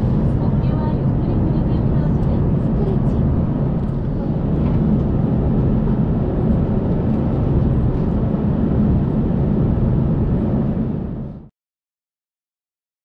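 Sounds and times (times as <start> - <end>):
aircraft cabin rumble: 0.0 - 11.5.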